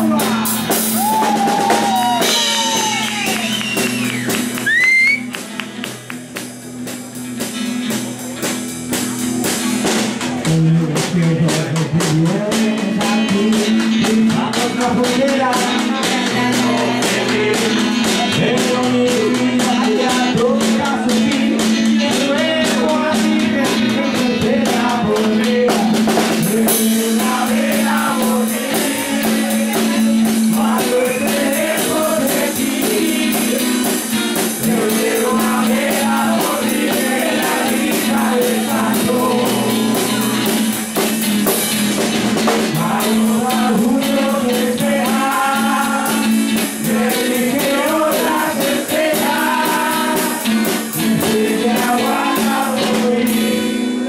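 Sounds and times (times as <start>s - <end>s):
person singing: 0.0s - 5.4s, 10.4s - 41.1s, 42.5s - 54.0s
drum kit played with sticks: 0.0s - 54.0s.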